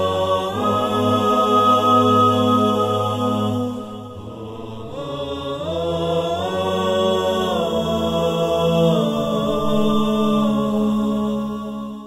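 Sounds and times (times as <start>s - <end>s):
chant-like voices holding notes: 0.0s - 12.0s.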